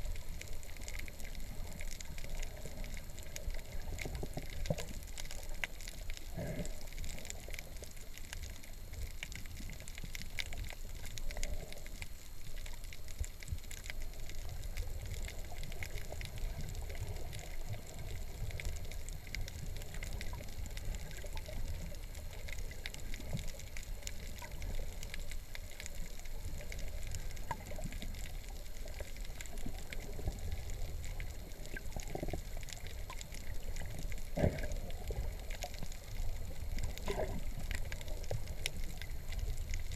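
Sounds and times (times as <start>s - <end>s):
faint crackling ticks: 0.0s - 39.9s
muffled low rumble of water: 0.0s - 39.9s.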